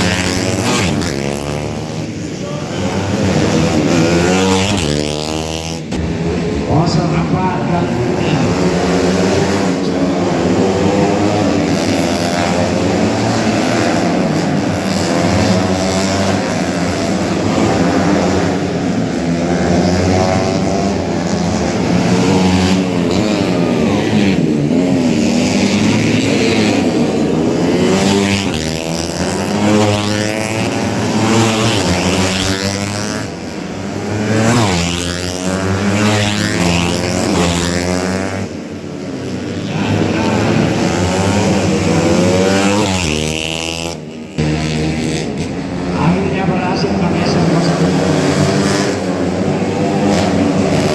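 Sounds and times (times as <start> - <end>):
racing motorcycles passing by: 0.0 - 50.9.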